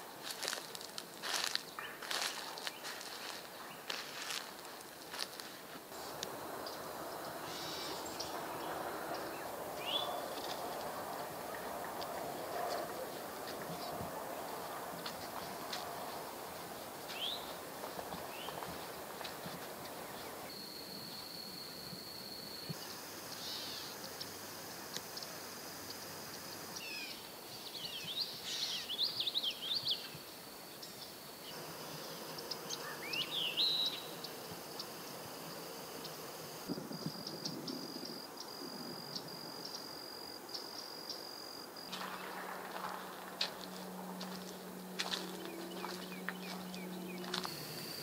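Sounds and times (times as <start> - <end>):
insect trill: 0.0 - 48.0.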